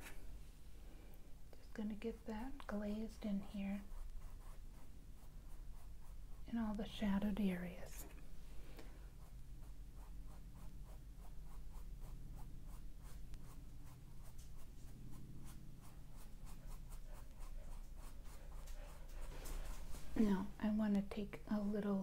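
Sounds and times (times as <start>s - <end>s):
paintbrush strokes on canvas: 2.0s - 8.1s, 9.1s - 20.6s.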